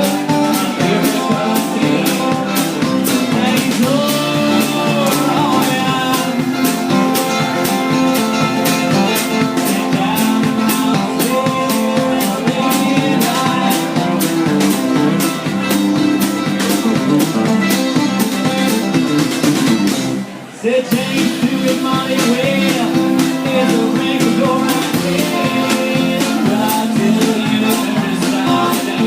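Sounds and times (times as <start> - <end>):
guitar: 0.0 - 29.0
sliding lead line: 0.0 - 29.0
steady drum beat: 0.0 - 29.0.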